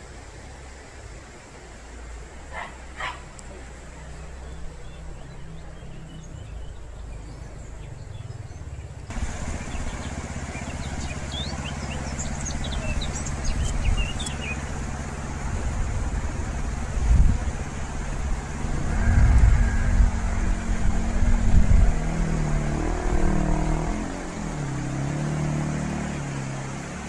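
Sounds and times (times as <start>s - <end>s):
small birds chirping: 1.9s - 27.0s
low rumble: 3.7s - 25.6s.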